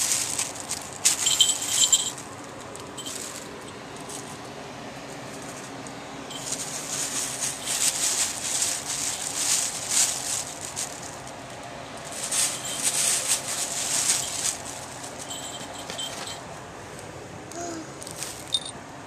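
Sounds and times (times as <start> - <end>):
plastic bag crinkling: 0.0 - 4.4, 5.1 - 16.4, 18.0 - 18.7.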